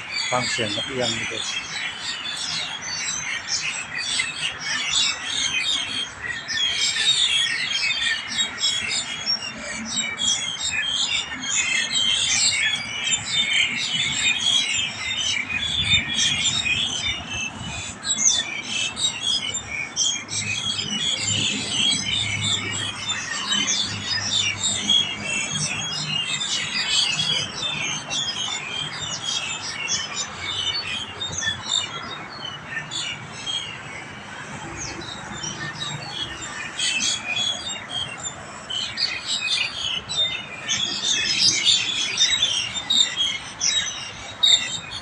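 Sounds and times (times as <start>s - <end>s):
flock of birds squawking: 0.0s - 45.0s.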